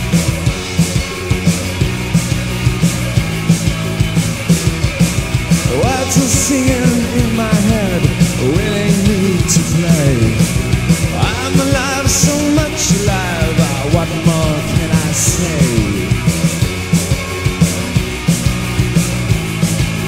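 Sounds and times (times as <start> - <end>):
punk rock instrumental: 0.0 - 20.0.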